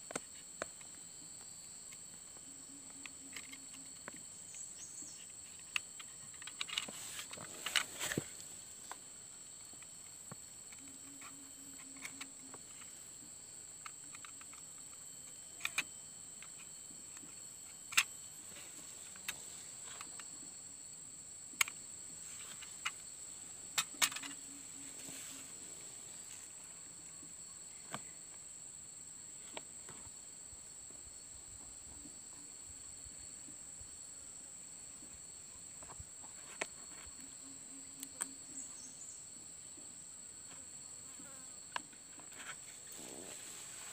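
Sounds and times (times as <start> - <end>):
insects buzzing: 0.0 - 43.9.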